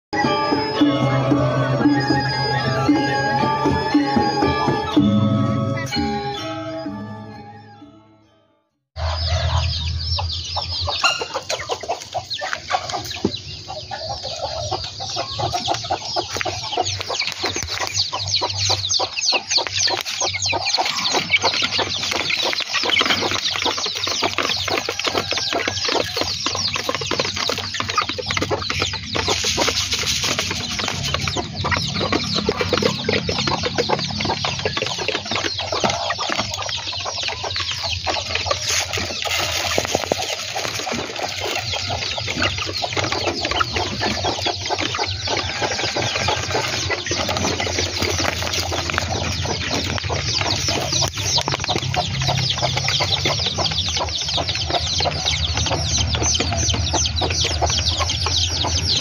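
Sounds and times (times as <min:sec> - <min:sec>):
chickens clucking and calling: 0:00.2 - 0:07.8, 0:09.0 - 0:59.0.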